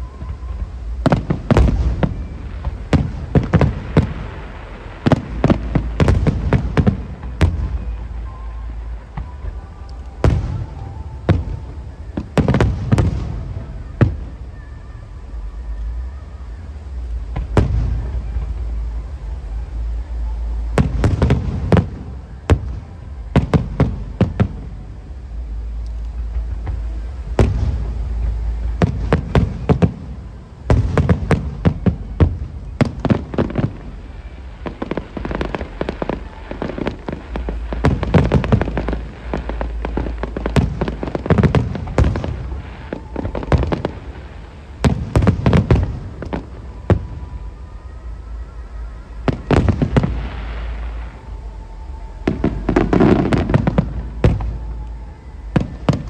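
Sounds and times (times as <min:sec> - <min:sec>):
fireworks bursting: 0:00.0 - 0:56.0
low rumble: 0:00.0 - 0:56.0.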